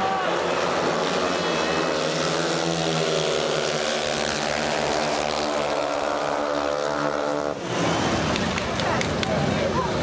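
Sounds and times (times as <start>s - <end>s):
motorcycle engines racing: 0.0s - 10.0s.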